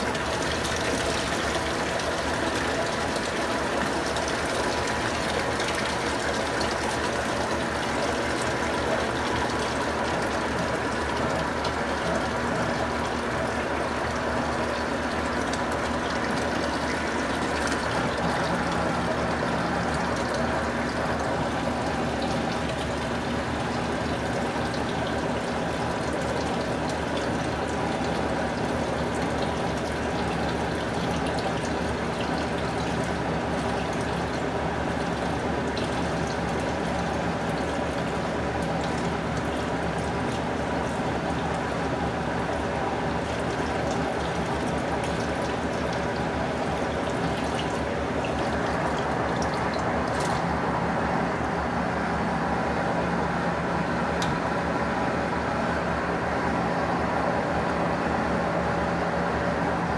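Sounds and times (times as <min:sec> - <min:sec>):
washing machine mechanical hum: 0:00.0 - 0:59.9
water sloshing in washing machine: 0:00.0 - 0:59.9.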